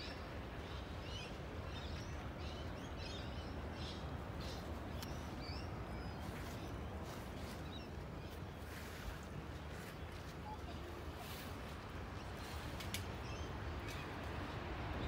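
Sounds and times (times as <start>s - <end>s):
low outdoor background hum: 0.0s - 15.0s
small birds chirping: 0.0s - 15.0s.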